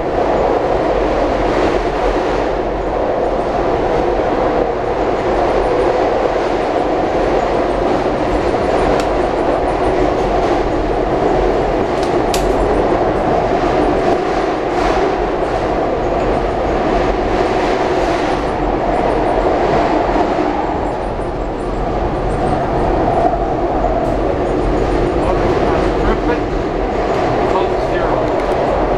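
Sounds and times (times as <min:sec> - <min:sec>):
train wheels rumbling on rails: 0:00.0 - 0:28.9.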